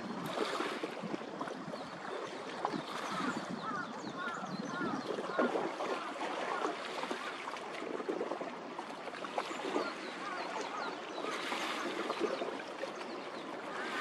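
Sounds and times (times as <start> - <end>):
water lapping at shore: 0.0 - 14.0.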